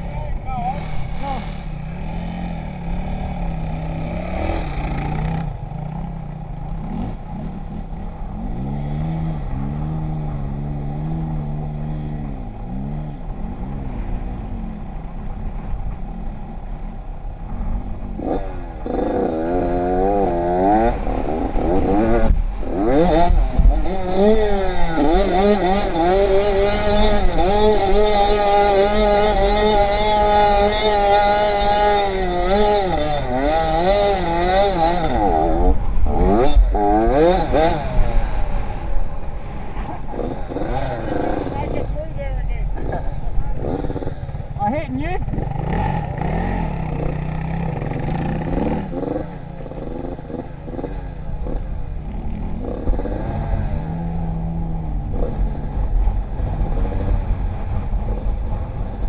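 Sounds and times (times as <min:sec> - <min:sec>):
dirt bike engine revving: 0:00.0 - 0:16.0, 0:17.4 - 0:59.0.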